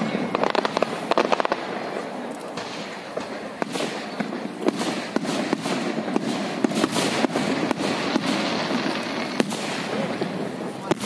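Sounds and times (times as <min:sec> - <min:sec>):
continuous noisy rush: 0:00.0 - 0:11.0.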